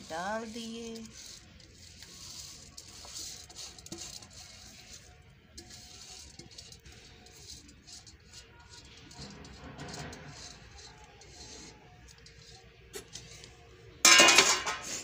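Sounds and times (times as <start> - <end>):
fingers rubbing metal tray: 0.0 - 13.5
grains ticking on pot rim: 0.0 - 13.6
rice grains pattering: 0.0 - 15.0.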